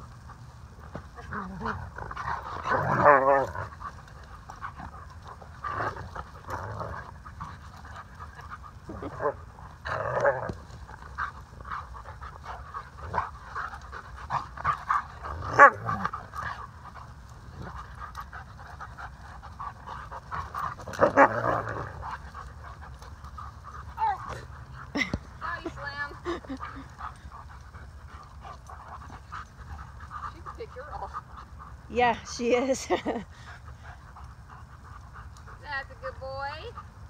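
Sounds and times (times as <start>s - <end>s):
dogs panting: 0.0s - 37.0s.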